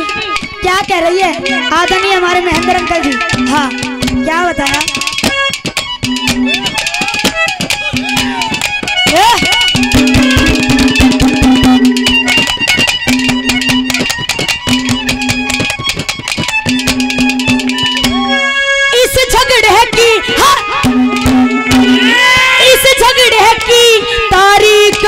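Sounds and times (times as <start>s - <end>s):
melody instrument long notes: 0.0s - 15.9s, 16.6s - 24.2s
fast hand drum and percussion: 0.0s - 25.0s.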